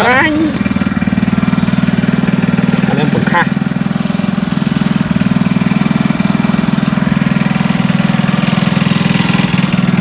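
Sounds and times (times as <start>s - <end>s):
water pump engine running: 0.0s - 10.0s.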